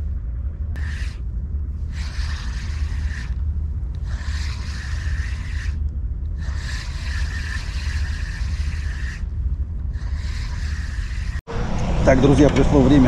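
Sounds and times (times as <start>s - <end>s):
wind rumble on microphone: 0.0s - 13.0s
spinning reel whirring: 0.8s - 11.4s.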